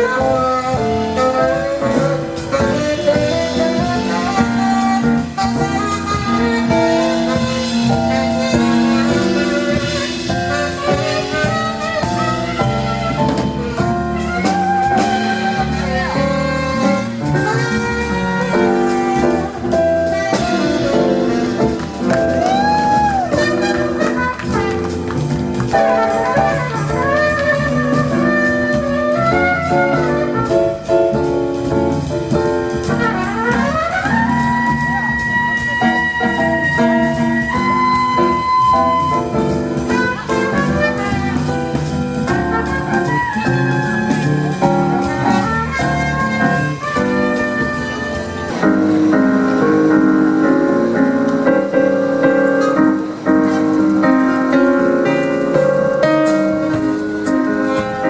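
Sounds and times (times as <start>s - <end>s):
horn gliding melody: 0.0s - 58.0s
jazz band playing: 0.0s - 58.0s.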